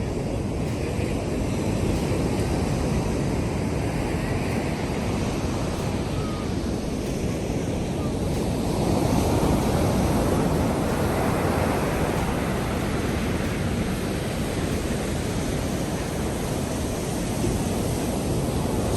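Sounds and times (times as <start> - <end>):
waves breaking and rushing: 0.0 - 18.9.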